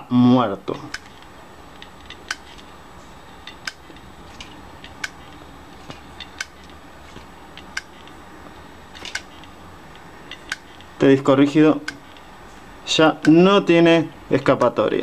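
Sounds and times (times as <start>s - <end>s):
hard disk drive clicking: 0.8s - 14.8s.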